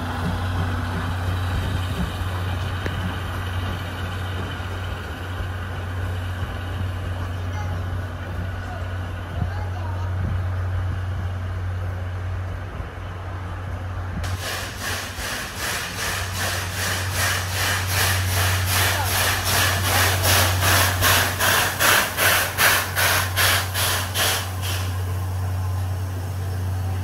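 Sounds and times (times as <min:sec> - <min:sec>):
steam locomotive chuffing: 0:00.0 - 0:27.0.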